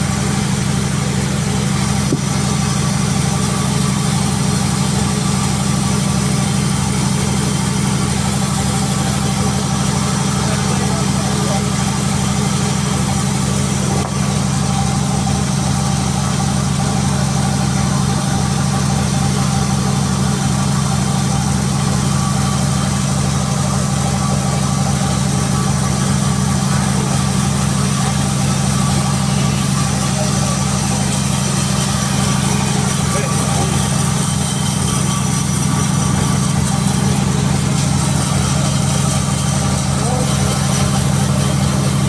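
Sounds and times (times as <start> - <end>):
machinery engine droning: 0.0 - 42.0.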